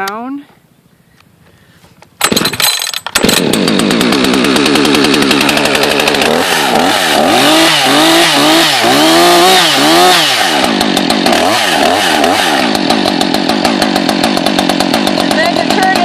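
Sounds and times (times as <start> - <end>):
chainsaw engine revving: 2.2 - 16.0.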